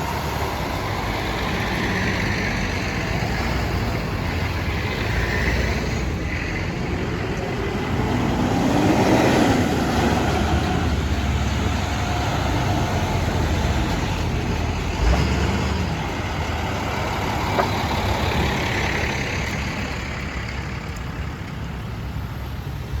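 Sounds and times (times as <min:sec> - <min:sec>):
truck engines running: 0:00.0 - 0:23.0.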